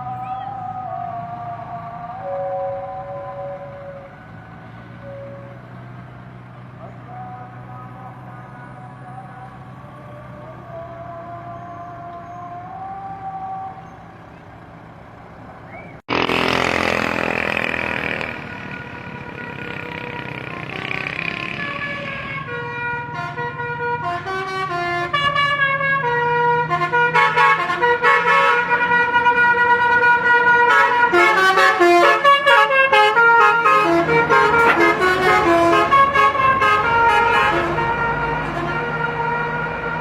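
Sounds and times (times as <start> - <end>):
bus horn playing a tune: 0.0 - 40.0.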